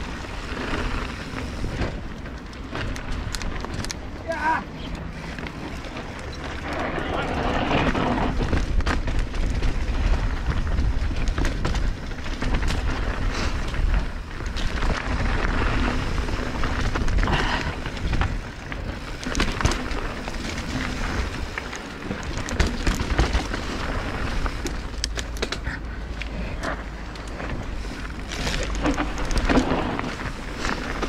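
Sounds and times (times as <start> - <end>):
bike rattling and knocking: 0.0 - 31.0
tyres crunching over dirt and stones: 0.0 - 31.0
wind rumbling on microphone: 0.0 - 31.0.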